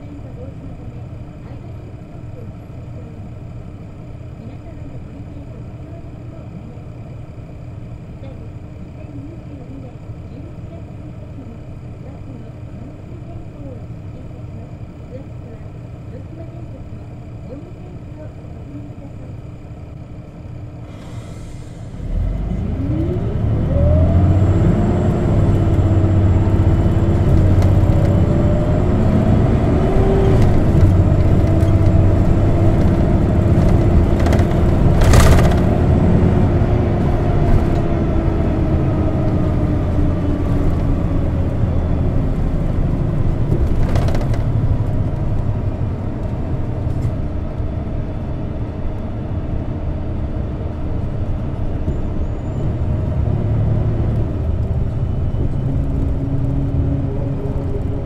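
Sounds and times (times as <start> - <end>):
bus engine rumble and whine: 0.0 - 58.0.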